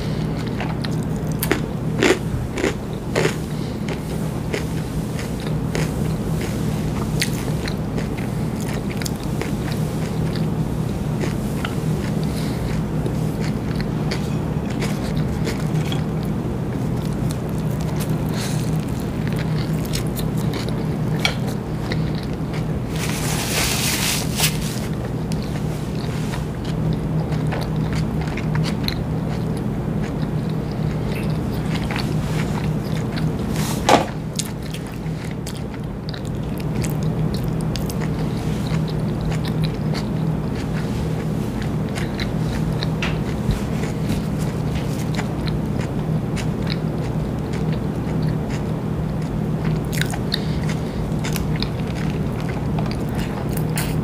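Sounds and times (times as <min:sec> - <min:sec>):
person chewing: 0:00.0 - 0:54.0
steady low hum: 0:00.0 - 0:54.0.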